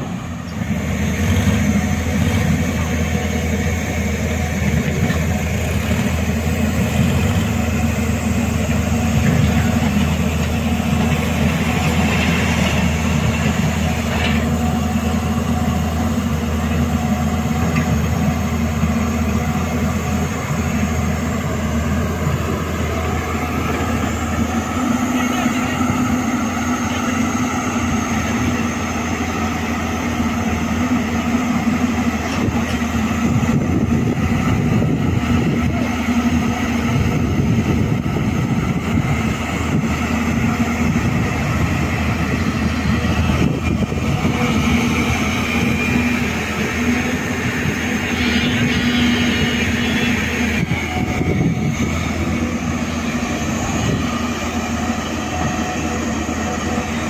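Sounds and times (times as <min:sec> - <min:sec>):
excavator diesel engine running: 0:00.0 - 0:57.0
high whine: 0:00.0 - 0:57.0.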